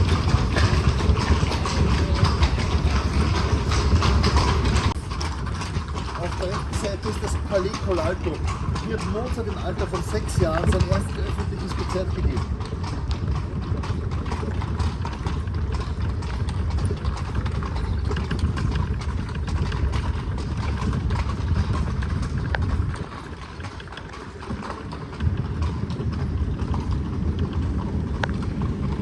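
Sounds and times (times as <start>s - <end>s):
carriage wheels rumbling: 0.0s - 29.0s
horse hooves clip-clopping: 0.0s - 29.0s.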